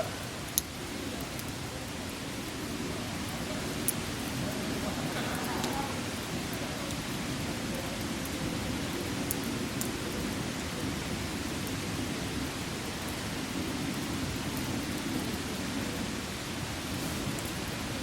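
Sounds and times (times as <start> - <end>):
wood fire hissing and crackling: 0.0 - 18.0.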